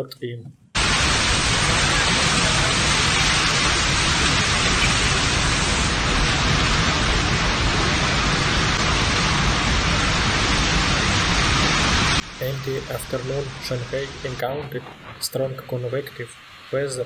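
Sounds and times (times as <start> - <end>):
heavy rain pouring: 0.8 - 17.0.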